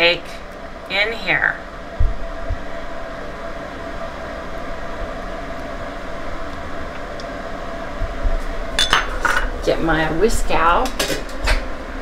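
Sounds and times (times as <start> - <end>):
mechanical whirring hum: 0.0 - 12.0.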